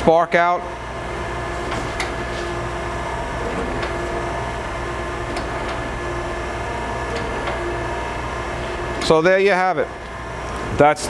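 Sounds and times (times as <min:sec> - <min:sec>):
surface grinder humming: 0:01.1 - 0:10.4.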